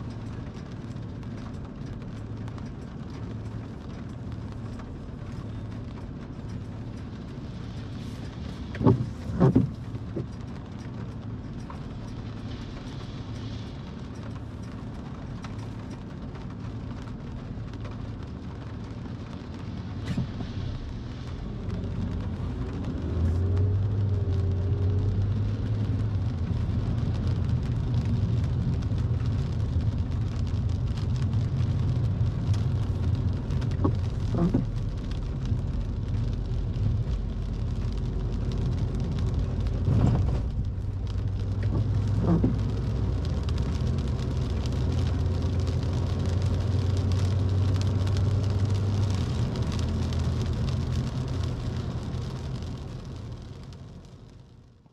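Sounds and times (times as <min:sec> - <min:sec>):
car engine hum: 0:00.0 - 0:54.9
tyres on wet road: 0:00.0 - 0:54.9.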